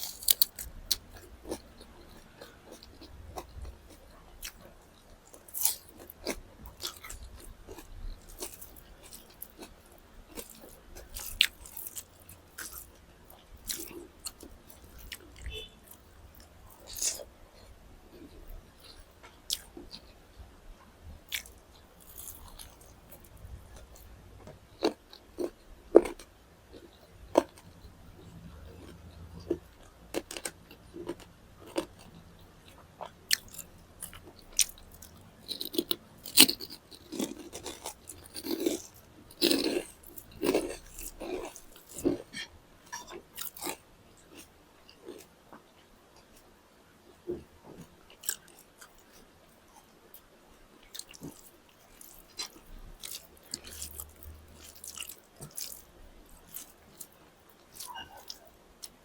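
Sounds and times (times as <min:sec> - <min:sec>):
chewing and biting food: 0:00.0 - 0:20.1, 0:21.3 - 0:45.3, 0:47.3 - 0:50.2, 0:50.8 - 0:59.0.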